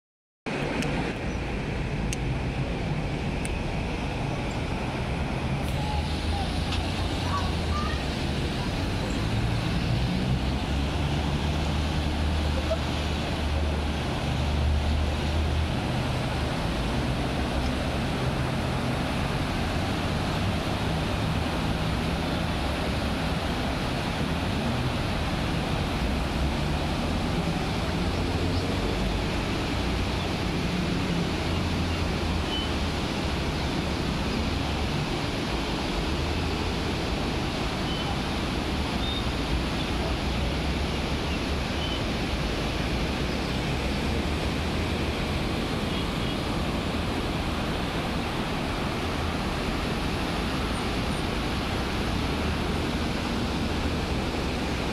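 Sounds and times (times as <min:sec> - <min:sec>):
river rushing: 0:00.5 - 0:54.9.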